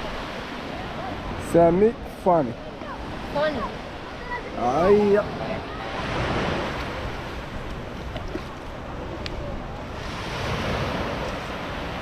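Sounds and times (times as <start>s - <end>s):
waves washing on shore: 0.0s - 12.0s.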